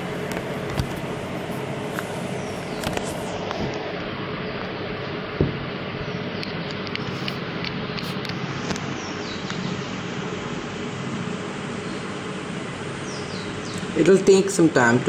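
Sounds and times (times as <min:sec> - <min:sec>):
background hiss and hum: 0:00.0 - 0:15.0.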